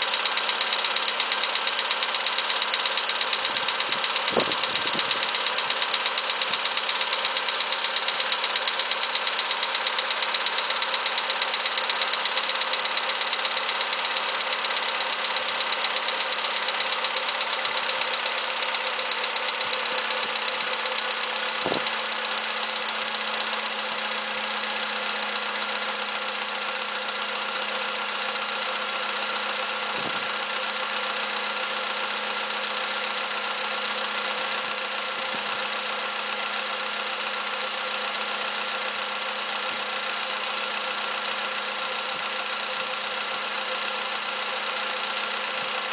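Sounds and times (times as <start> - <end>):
engine idling with knock: 0.0 - 45.9.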